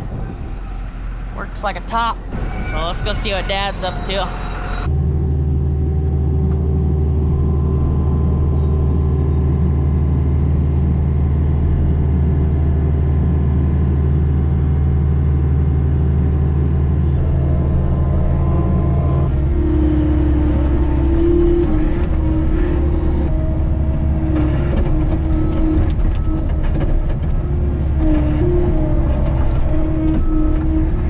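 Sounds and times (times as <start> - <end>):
farm vehicle engine running: 0.0 - 31.0.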